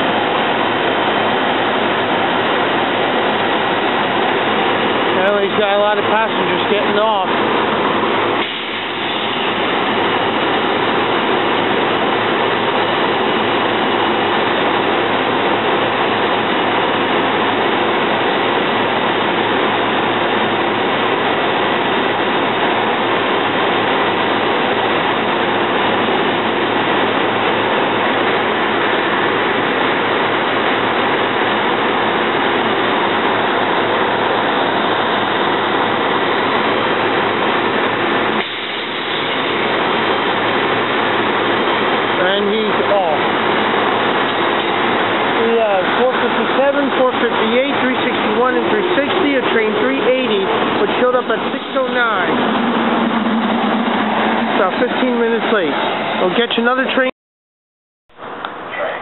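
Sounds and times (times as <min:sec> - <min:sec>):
railcar rushing noise: 0:00.0 - 0:56.9.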